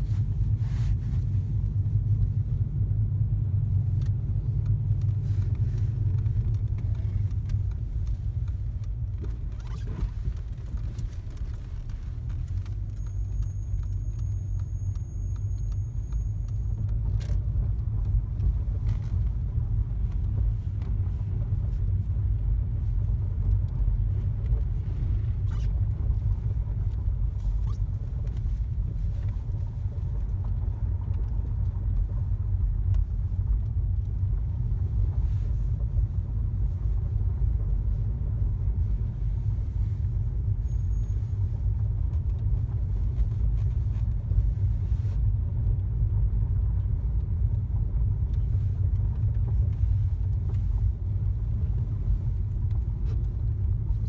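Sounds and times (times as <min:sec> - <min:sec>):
car road and engine rumble: 0:00.0 - 0:54.0
faint steady hum: 0:00.0 - 0:54.0.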